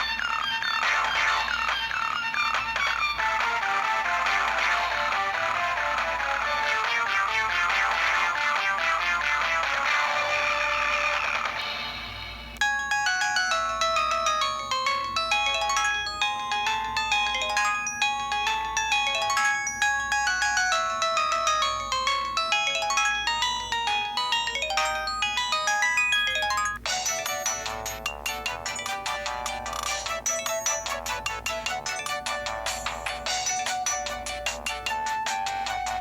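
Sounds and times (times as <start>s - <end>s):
distorted phone ringtones: 0.0s - 36.0s.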